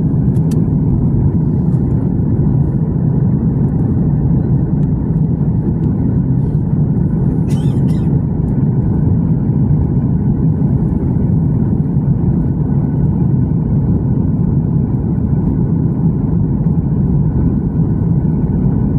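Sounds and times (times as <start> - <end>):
airliner cabin engine rumble: 0.0 - 18.9.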